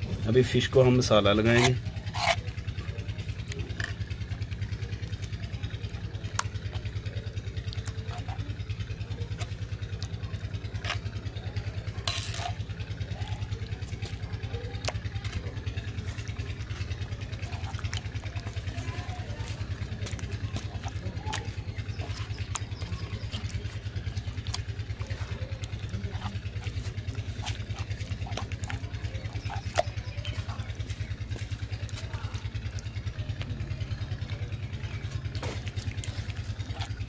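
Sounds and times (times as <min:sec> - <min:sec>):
motor running with low throb: 0:00.0 - 0:37.0.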